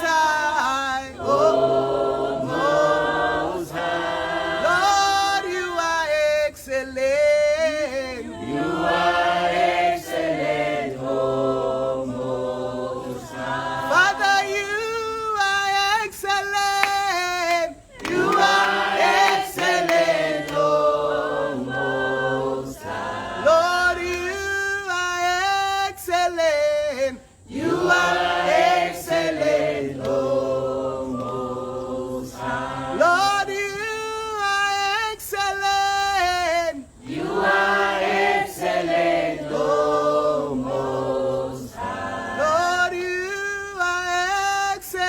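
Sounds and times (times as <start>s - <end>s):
group singing a worship song: 0.0s - 45.0s.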